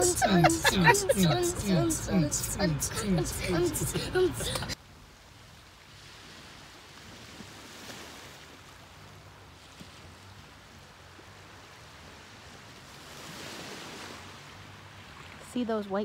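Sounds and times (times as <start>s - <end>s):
ocean surf washing ashore: 0.0s - 15.7s.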